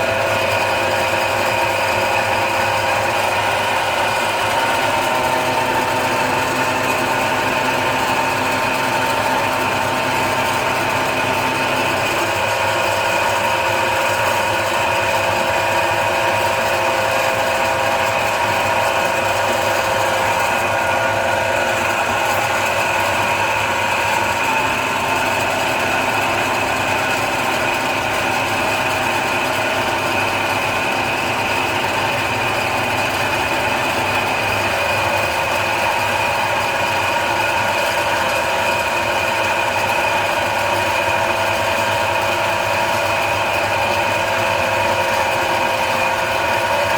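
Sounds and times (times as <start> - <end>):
noodle machine humming and whirring: 0.0 - 46.9.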